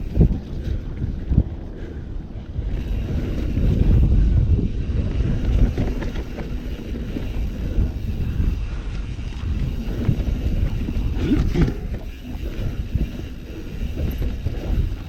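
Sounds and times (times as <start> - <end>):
bike rattles and clicks: 0.0 - 15.0
tyres rumbling on dirt: 0.0 - 15.0
wind buffeting microphone: 0.0 - 15.0.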